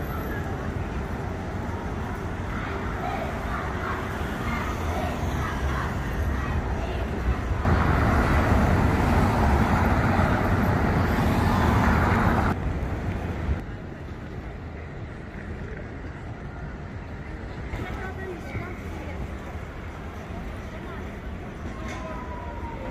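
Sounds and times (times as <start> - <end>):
passing traffic: 0.0 - 22.9.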